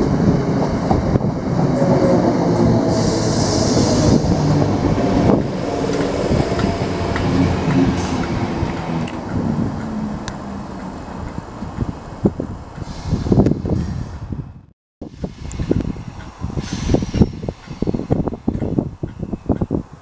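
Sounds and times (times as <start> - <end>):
passenger train rumbling past: 0.0 - 20.0.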